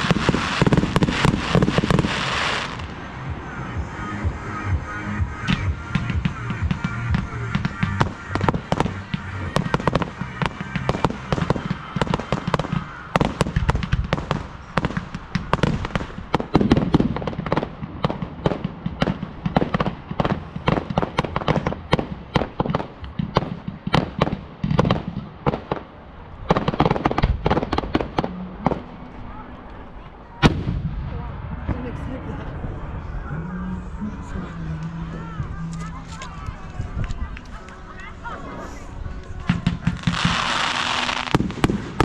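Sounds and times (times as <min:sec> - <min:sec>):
deep firework booms: 0:00.0 - 0:28.9, 0:30.4 - 0:33.2, 0:39.4 - 0:42.0
fireworks cracks and bangs: 0:00.0 - 0:29.0, 0:30.4 - 0:32.3, 0:39.3 - 0:42.0.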